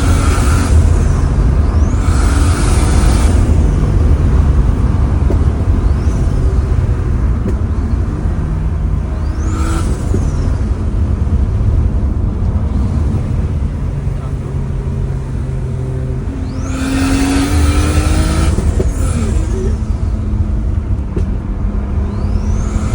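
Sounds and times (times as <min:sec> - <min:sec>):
car engine drone: 0:00.0 - 0:22.9.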